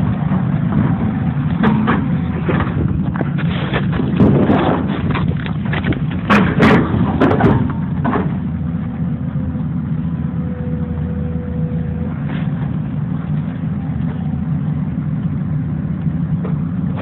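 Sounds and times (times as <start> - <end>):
excavator diesel engine rumbling: 0.0 - 17.0.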